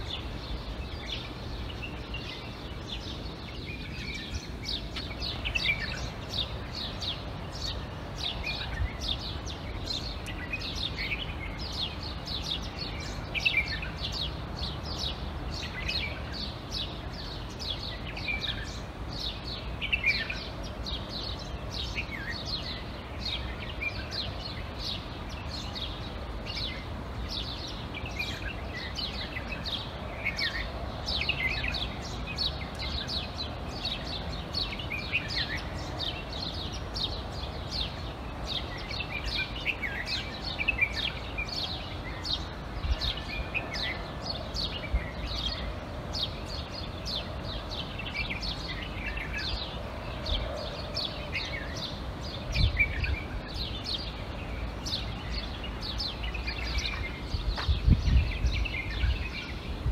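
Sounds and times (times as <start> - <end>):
small birds chirping chorus: 0.0 - 59.9.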